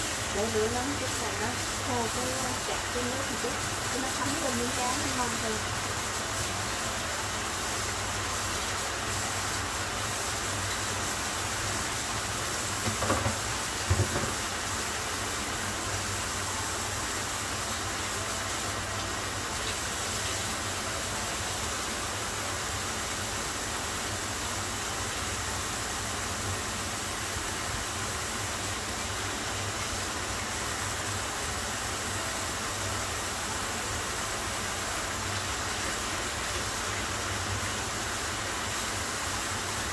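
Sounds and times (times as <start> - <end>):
fish sizzling in a frying pan: 0.0 - 39.9.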